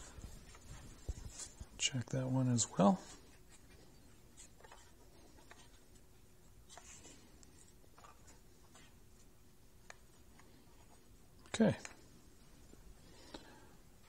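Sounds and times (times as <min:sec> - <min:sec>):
faint ticks and rubs on paper: 0:00.0 - 0:01.9, 0:02.5 - 0:12.0
faint steady hum: 0:00.0 - 0:14.0.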